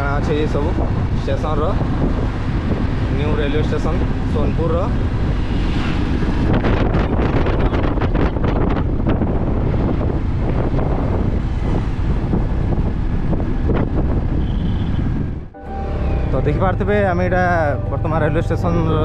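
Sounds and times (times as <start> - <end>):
wind rushing over microphone: 0.0 - 16.5
road noise: 0.0 - 19.0.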